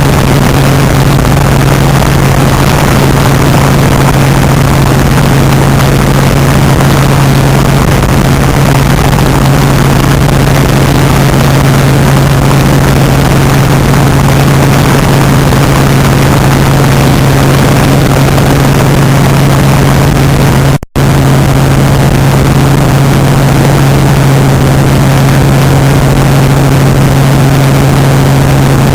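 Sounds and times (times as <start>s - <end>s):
helicopter engine and rotor drone: 0.0s - 28.9s.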